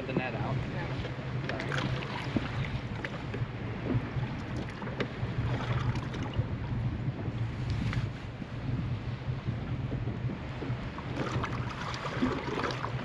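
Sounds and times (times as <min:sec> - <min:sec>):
water lapping around boat: 0:00.0 - 0:13.0
wind noise: 0:00.0 - 0:13.0.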